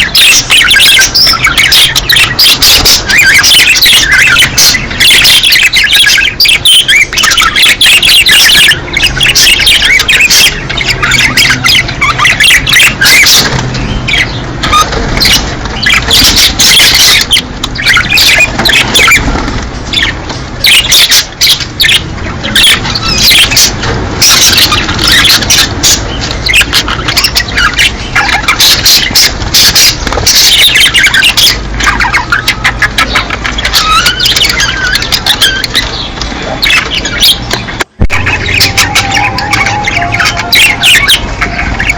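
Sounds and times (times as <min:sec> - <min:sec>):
budgerigars chattering: 0:00.0 - 0:41.9.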